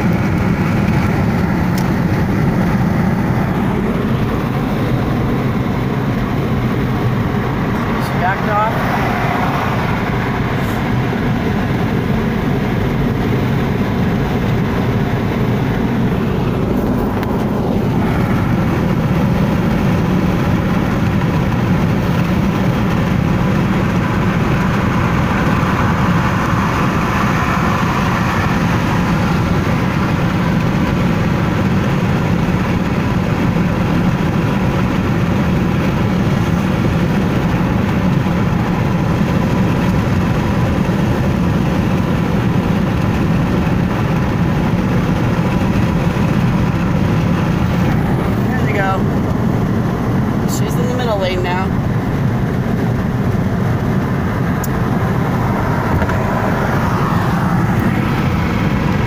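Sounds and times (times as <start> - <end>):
car cabin road noise: 0.0 - 59.0.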